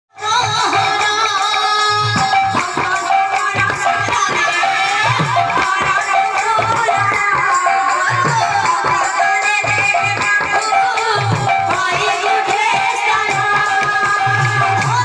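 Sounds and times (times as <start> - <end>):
drum beats: 0.1 - 15.0
woman singing devotional melody: 0.2 - 15.0.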